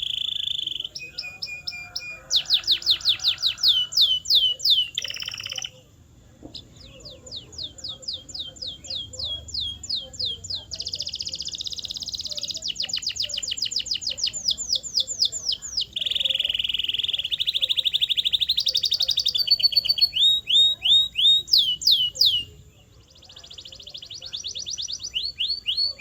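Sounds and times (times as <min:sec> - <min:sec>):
canary singing: 0:00.0 - 0:26.0.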